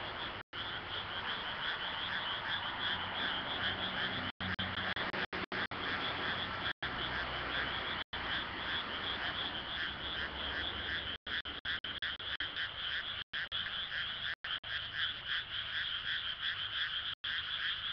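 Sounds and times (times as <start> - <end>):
frogs croaking: 0.0 - 17.9.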